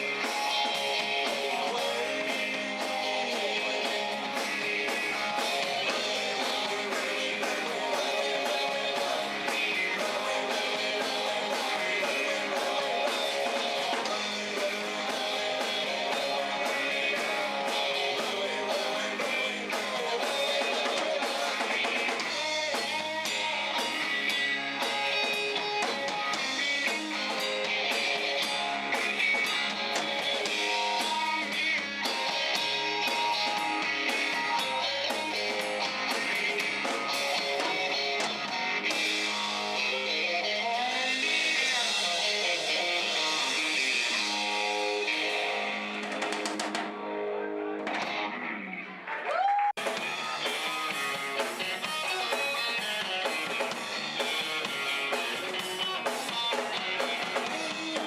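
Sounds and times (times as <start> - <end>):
drum kit: 0.0 - 48.5, 49.4 - 58.0
electric guitar: 0.0 - 58.0.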